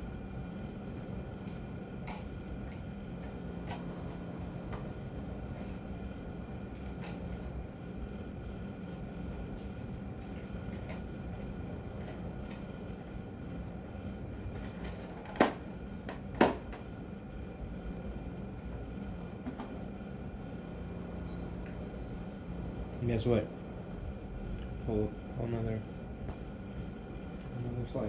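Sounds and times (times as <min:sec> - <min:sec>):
mechanical hum: 0:00.0 - 0:28.0.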